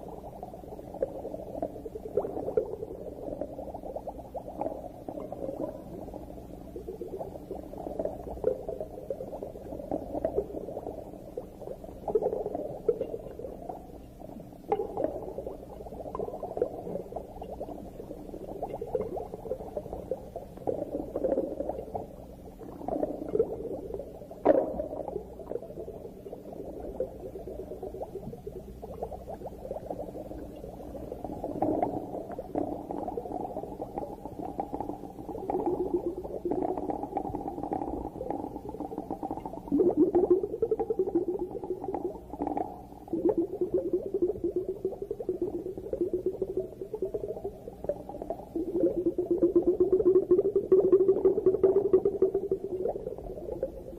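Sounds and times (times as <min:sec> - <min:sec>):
underwater bubbling and crackling: 0:00.0 - 0:53.9.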